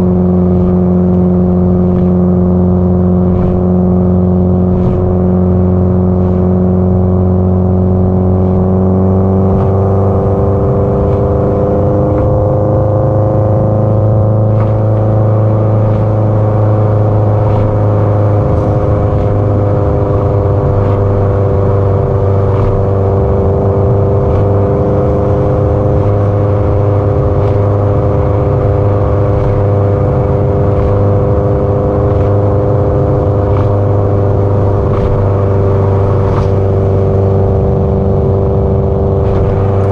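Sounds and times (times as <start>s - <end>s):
car engine exhaust cruising: 0.0s - 39.9s.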